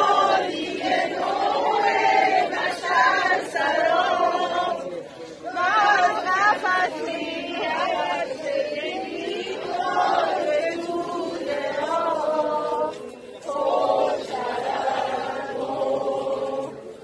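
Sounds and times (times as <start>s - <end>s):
crowd singing in unison: 0.0s - 17.0s.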